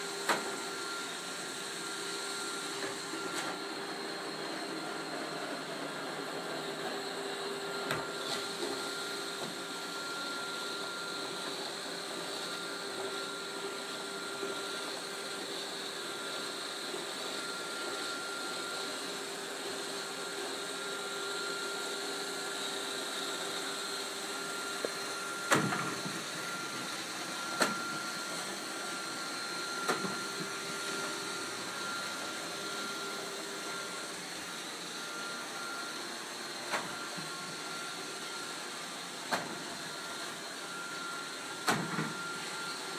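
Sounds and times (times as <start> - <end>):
robot vacuum whirring: 0.0 - 42.9.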